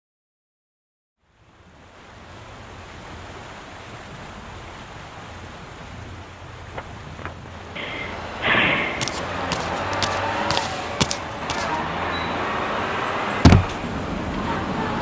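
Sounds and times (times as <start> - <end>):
water: 1.2 - 15.0
wind: 1.2 - 15.0.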